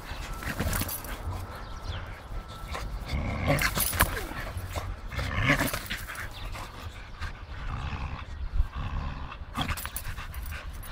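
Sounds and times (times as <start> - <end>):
dogs growling: 0.1 - 10.9.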